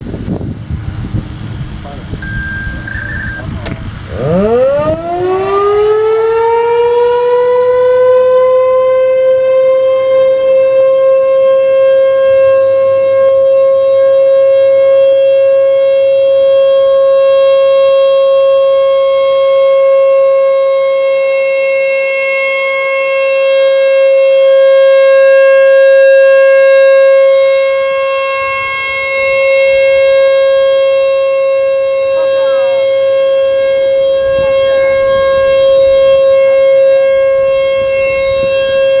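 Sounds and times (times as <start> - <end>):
warning siren steady tone: 0.5 - 39.0.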